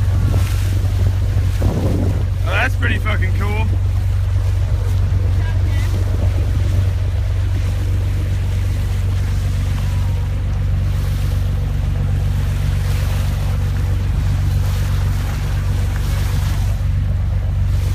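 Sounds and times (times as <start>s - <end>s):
boat engine humming: 0.0s - 17.9s
sea water washing: 0.0s - 17.9s
wind on microphone: 0.0s - 17.9s.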